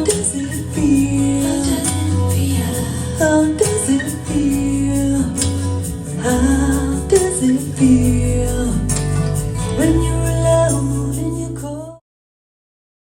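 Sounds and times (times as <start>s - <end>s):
song through speakers: 0.0s - 12.0s.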